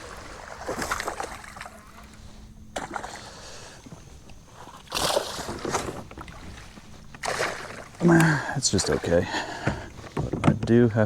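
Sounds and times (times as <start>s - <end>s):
fish splashing and thrashing in water: 0.0s - 4.0s, 4.6s - 10.4s.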